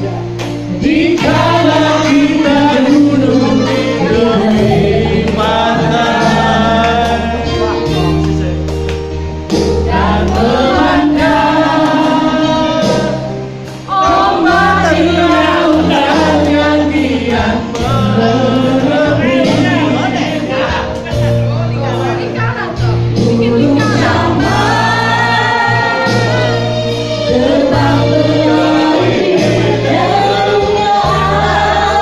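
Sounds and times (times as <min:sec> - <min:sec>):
crowd singing along: 0:00.0 - 0:08.6, 0:09.5 - 0:21.3, 0:22.2 - 0:32.0
amplified backing music: 0:00.0 - 0:32.0
woman and man singing: 0:00.7 - 0:08.2, 0:09.9 - 0:20.8, 0:22.7 - 0:32.0.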